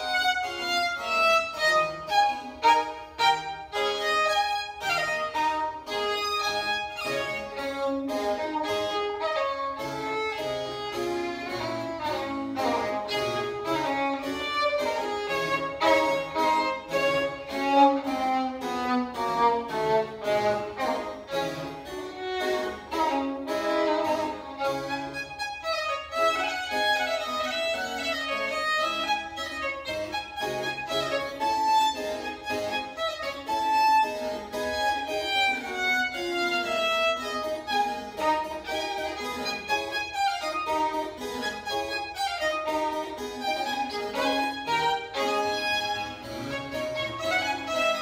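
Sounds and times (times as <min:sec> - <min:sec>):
harpsichord accompaniment: 0:00.0 - 0:48.0
violin melody: 0:00.0 - 0:48.0.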